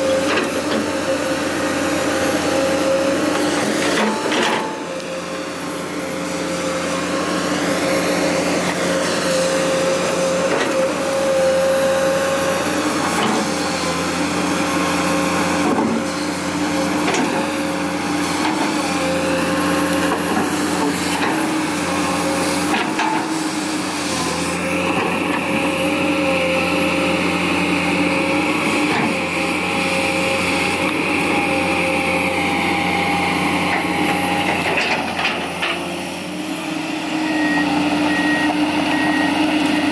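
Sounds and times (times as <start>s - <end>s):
diesel engine running under load: 0.0s - 39.9s
hydraulics whining: 0.0s - 39.9s.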